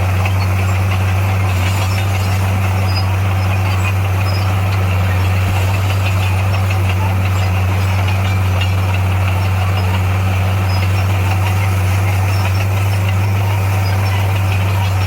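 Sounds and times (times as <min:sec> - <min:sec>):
bulldozer diesel engine humming: 0:00.0 - 0:15.0.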